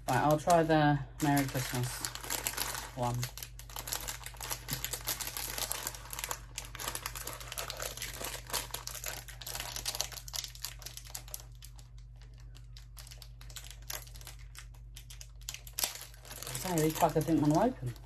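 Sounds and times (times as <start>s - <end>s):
wrapper crinkling and rustling: 0.0s - 18.0s.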